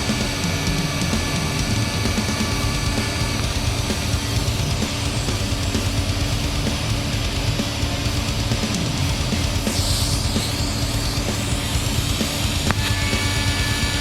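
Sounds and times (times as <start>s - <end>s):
heavy metal music: 0.0s - 14.0s.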